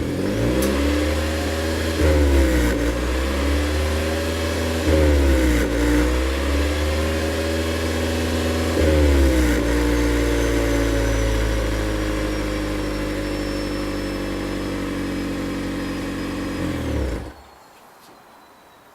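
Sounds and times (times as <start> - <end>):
car engine running: 0.0 - 17.4.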